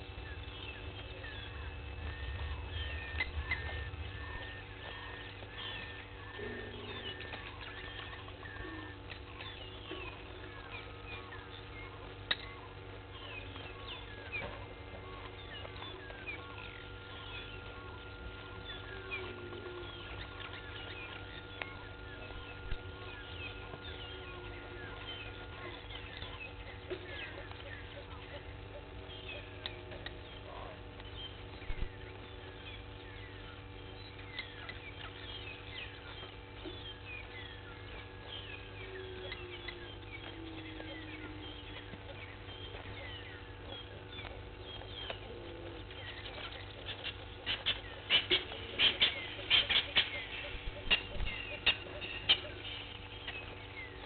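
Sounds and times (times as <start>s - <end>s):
birds singing and calling: 0.0s - 54.0s
steady thin whine: 0.0s - 54.0s.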